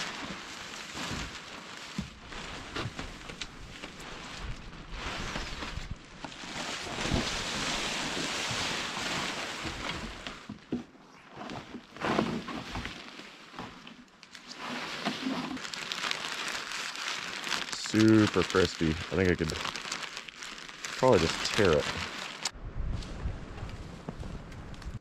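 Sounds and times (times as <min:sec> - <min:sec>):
tent fabric rustling: 0:00.0 - 0:10.5, 0:11.1 - 0:22.6.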